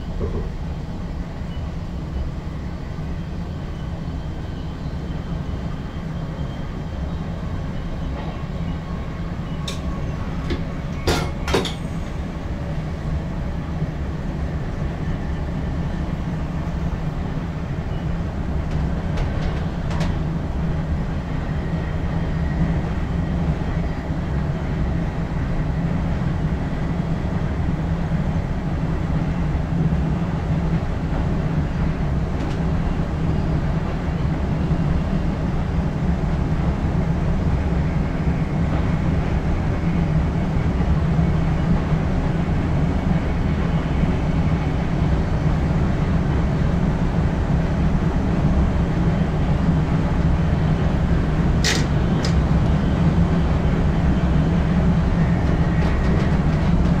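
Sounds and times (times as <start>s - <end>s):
train low rumble: 0.0s - 57.0s.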